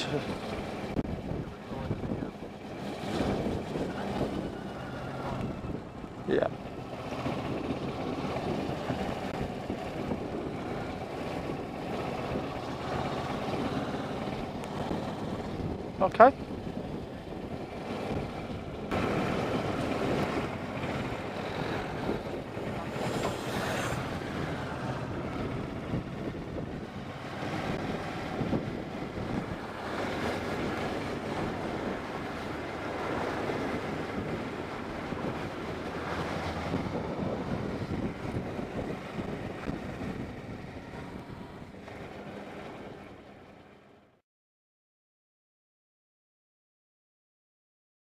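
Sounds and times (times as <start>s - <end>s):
wind rush on microphone: 0.0s - 44.0s.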